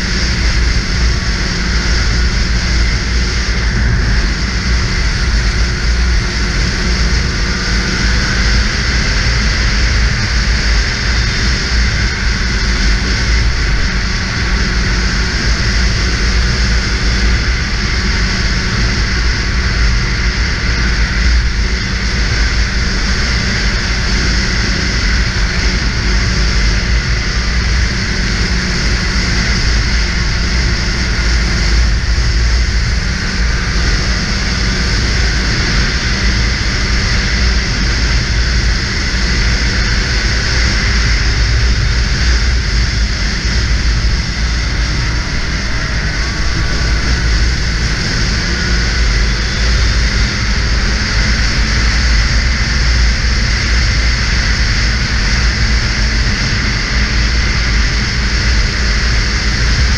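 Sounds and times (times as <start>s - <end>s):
rushing wind: 0.0s - 59.9s
snowmobile engine running: 0.0s - 59.9s.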